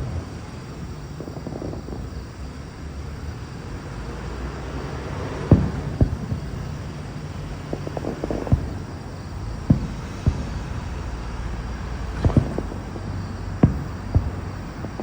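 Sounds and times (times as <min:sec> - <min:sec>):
fireworks booming: 0:00.0 - 0:15.0
low rumble of fireworks: 0:00.0 - 0:15.0.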